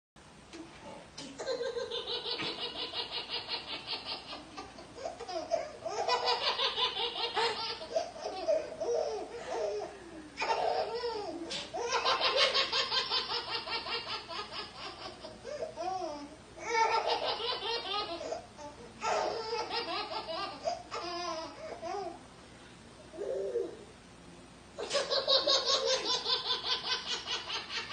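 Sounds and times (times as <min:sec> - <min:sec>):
baby laughing: 0:01.4 - 0:22.2, 0:24.8 - 0:27.9.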